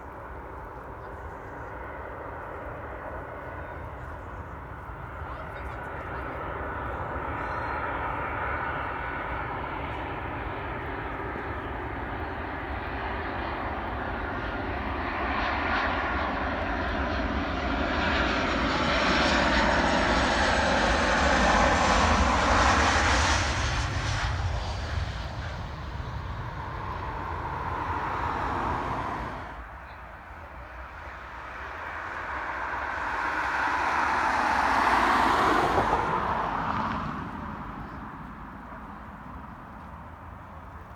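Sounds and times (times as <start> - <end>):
jet airliner engines passing: 0.0 - 40.9.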